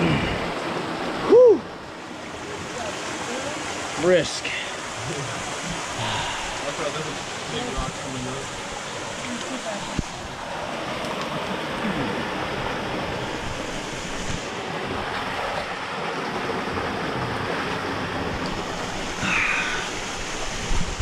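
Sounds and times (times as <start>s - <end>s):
small waterfall rushing: 0.0s - 21.0s.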